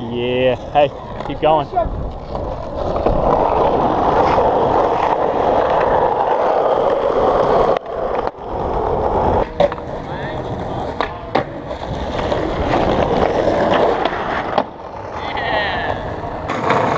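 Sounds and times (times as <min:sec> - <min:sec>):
skateboard wheels rolling on concrete: 0:00.0 - 0:16.9.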